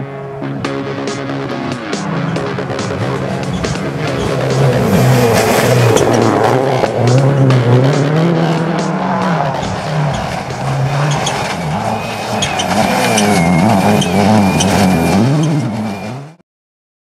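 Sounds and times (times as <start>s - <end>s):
rally car engine revving: 0.0s - 16.4s.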